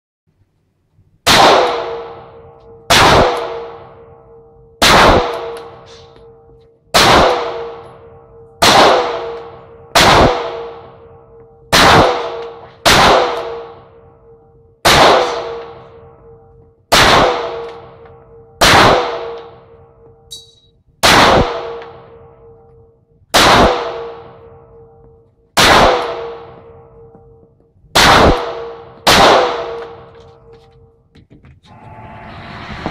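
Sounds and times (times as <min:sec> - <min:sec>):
pistol shots with ringing: 0:01.2 - 0:30.5.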